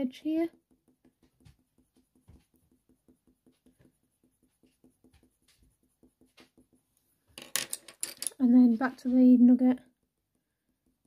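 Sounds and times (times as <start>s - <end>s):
coloured pencil scratching on paper: 0.0s - 7.2s, 8.6s - 11.0s.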